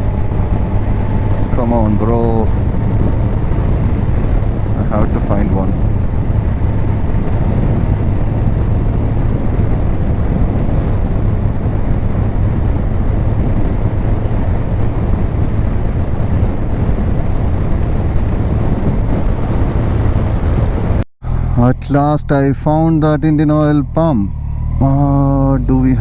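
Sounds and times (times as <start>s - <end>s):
wind rush over microphone: 0.0s - 21.7s
motorcycle engine running: 0.0s - 26.0s.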